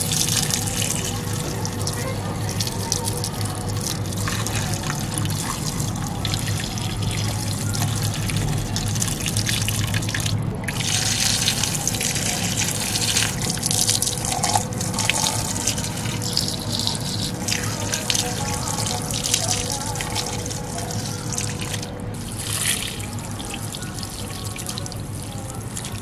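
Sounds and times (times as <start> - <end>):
water splashing and dripping: 0.0 - 26.0.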